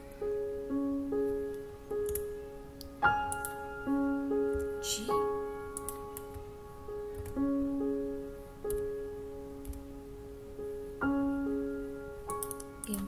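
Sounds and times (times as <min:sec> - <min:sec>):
slow gentle piano notes: 0:00.0 - 0:13.0.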